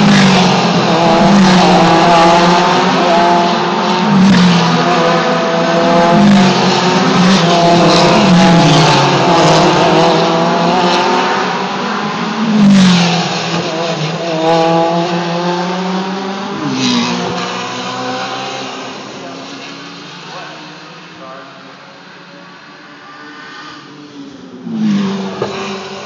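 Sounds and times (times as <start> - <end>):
race car engines braking and accelerating: 0.0 - 26.0.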